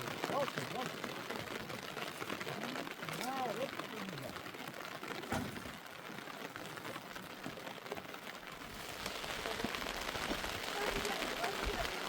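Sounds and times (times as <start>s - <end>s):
rain drops pattering: 0.0s - 12.0s.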